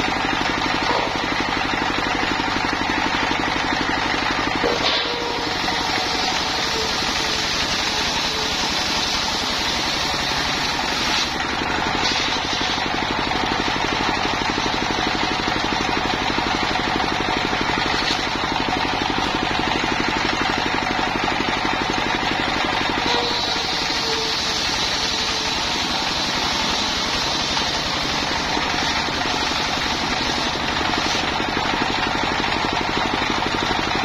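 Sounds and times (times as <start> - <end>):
circular saw cutting log: 0.0 - 34.0.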